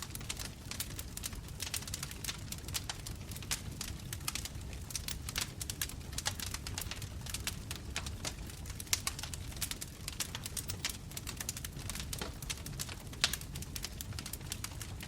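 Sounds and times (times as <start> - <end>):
low rumble of flames: 0.0 - 15.0
wood bonfire crackling: 0.0 - 15.0.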